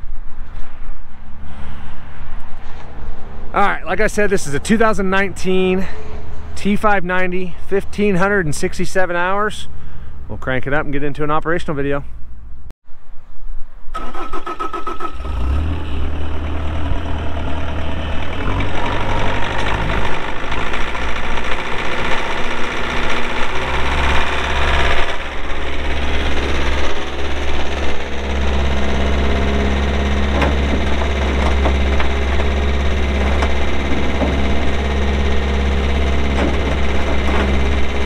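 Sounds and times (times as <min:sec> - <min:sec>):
diesel engine starting and running: 0:01.2 - 0:10.0, 0:13.9 - 0:38.0.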